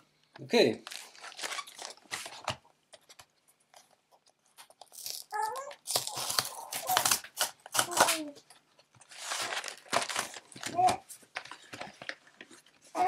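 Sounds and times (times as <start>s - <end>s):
packaging tearing and crinkling: 0.8s - 3.2s, 4.6s - 12.7s.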